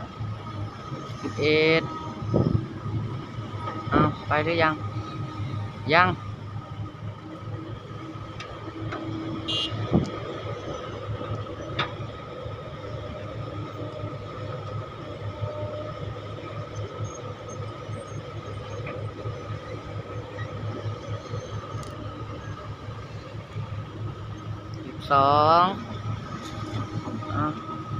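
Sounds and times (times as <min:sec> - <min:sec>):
excavator diesel engine running: 0:00.0 - 0:27.9
steady high whine: 0:00.0 - 0:27.9.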